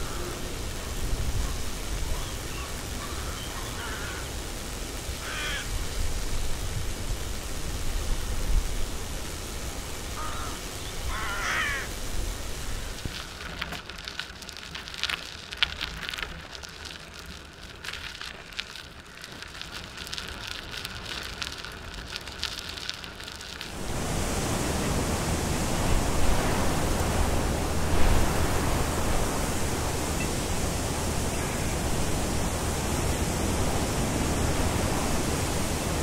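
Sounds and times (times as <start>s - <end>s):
bicycle tyres crunching on gravel: 0.0s - 36.0s
wind rumbling on microphone: 0.0s - 36.0s.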